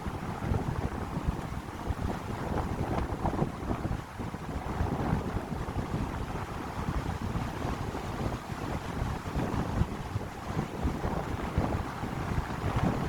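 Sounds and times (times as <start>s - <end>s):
wind buffeting microphone: 0.0s - 13.0s
wind through pine trees: 0.0s - 13.0s.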